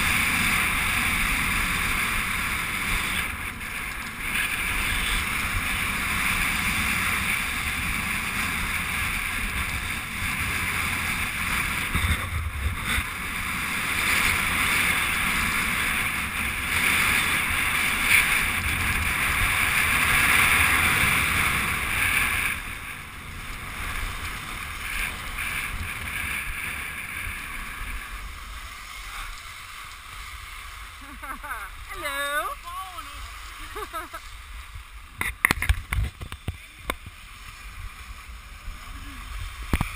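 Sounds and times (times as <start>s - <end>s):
skis hissing over snow: 0.0s - 39.9s.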